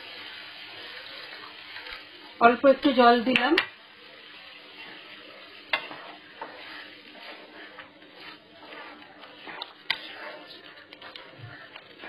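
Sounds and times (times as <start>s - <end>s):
spatula stirring thick dal: 0.0s - 2.4s, 3.1s - 12.0s
dal simmering sizzle: 0.0s - 12.0s.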